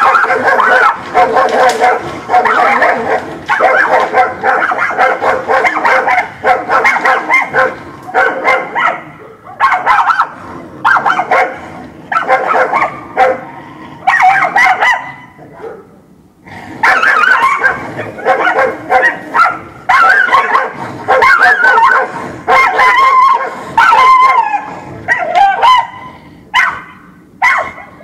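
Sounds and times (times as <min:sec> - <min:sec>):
dogs barking: 0:00.0 - 0:15.9, 0:16.7 - 0:28.0.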